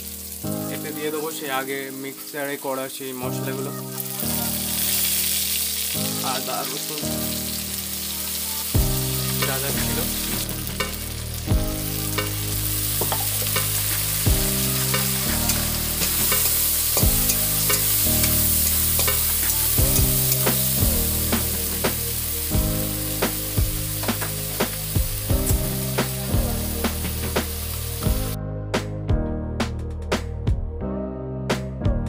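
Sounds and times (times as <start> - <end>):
spice paste sizzling in oil: 0.0 - 28.4.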